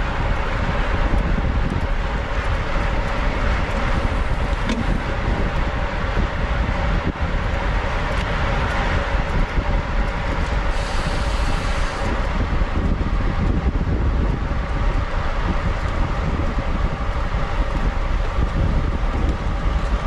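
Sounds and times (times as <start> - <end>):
low road rumble: 0.0 - 20.0
wind on microphone: 0.0 - 20.0.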